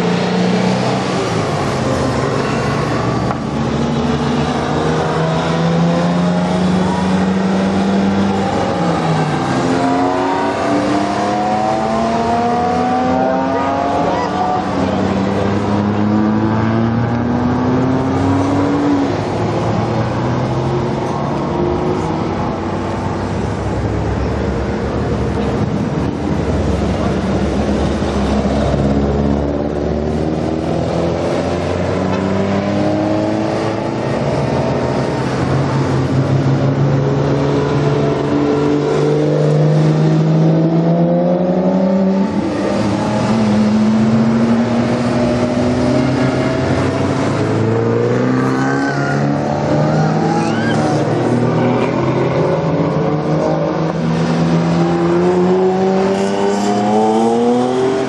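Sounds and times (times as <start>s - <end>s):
sports car engines accelerating: 0.0s - 58.0s.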